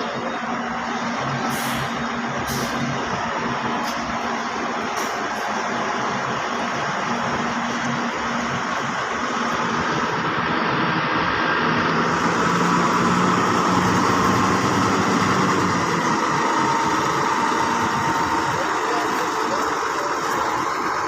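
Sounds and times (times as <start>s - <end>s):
heavy vehicle engine running: 0.0s - 21.0s
road noise: 0.0s - 21.0s.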